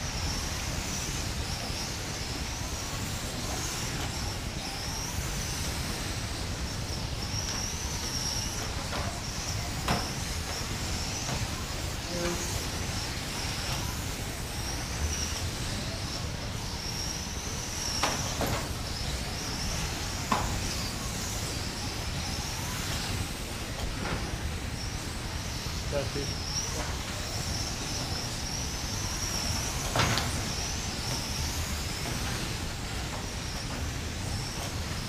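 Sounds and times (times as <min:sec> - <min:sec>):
rc car motors whining: 0:00.0 - 0:35.0.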